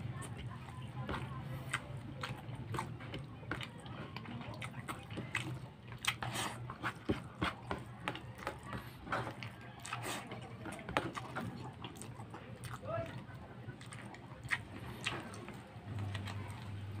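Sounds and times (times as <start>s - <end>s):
wet open-mouthed chewing: 0.0s - 17.0s.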